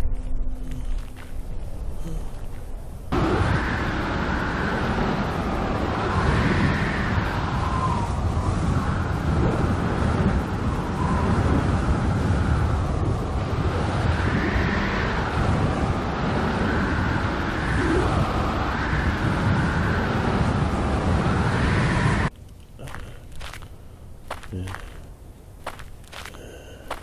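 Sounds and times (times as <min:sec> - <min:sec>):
wind blowing across microphone: 0:00.0 - 0:27.0
wind whistling: 0:00.0 - 0:27.0.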